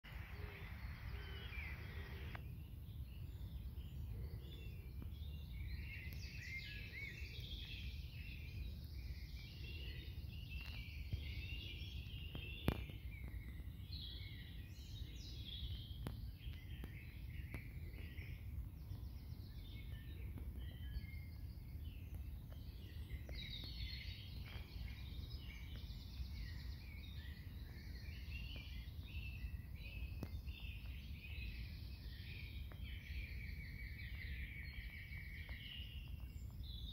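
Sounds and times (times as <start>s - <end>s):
songbirds singing: 0.0s - 36.9s.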